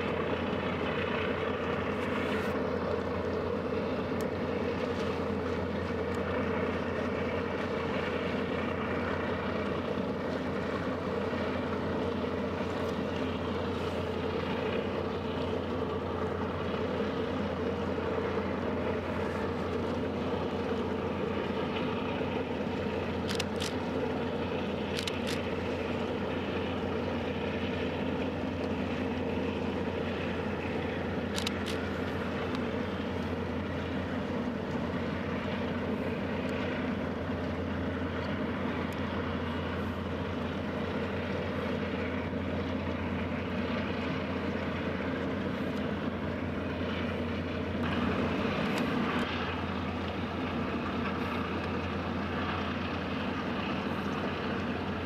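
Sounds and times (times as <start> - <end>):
ship engines droning: 0.0 - 55.0.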